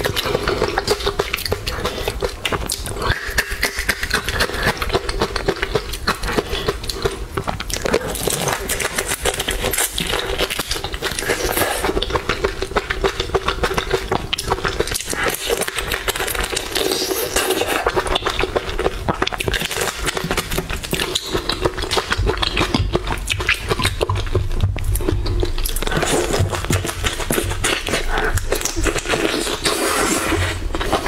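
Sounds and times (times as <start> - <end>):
wet chewing and shell crunching: 0.0 - 31.0.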